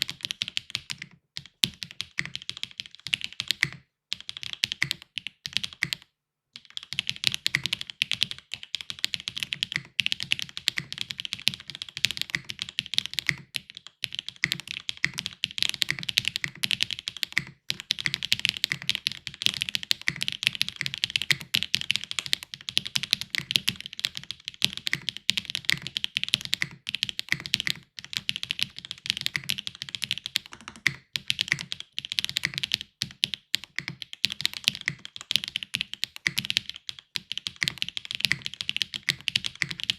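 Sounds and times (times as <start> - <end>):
fast mechanical keyboard typing: 0.0 - 6.0, 6.6 - 39.9.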